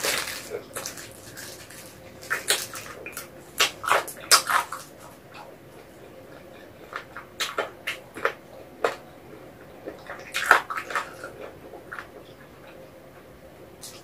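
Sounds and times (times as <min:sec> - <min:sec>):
person chewing wetly: 0:00.0 - 0:12.8.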